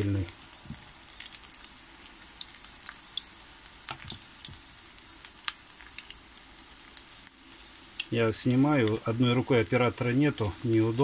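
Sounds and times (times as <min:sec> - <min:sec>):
fritters frying in hot oil: 0:00.0 - 0:11.0.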